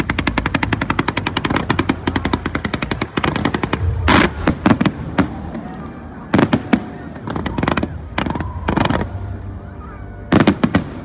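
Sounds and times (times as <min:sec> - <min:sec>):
fireworks booms: 0:00.0 - 0:09.2
fireworks bangs: 0:00.0 - 0:09.3, 0:10.3 - 0:11.0.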